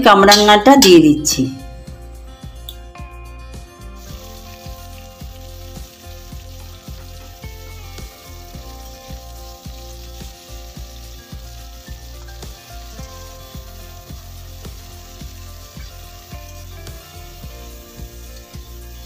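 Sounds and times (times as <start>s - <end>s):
fruit sizzling in hot oil: 3.5s - 19.0s.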